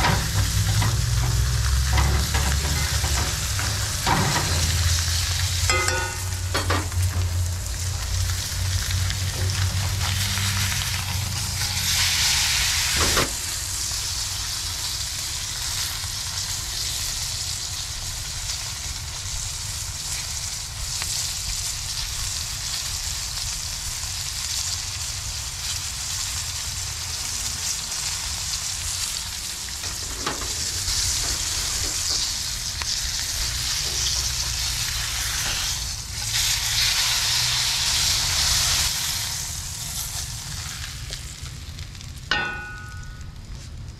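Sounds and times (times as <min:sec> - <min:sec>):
steak sizzling in skillet: 0:00.0 - 0:43.6.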